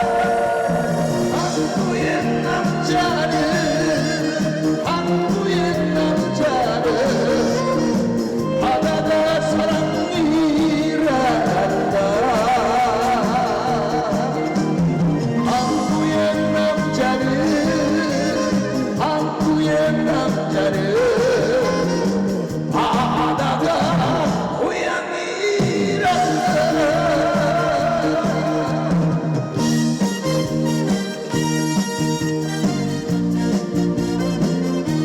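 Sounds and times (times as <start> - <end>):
live band music over speakers: 0.0 - 24.8, 25.5 - 35.0.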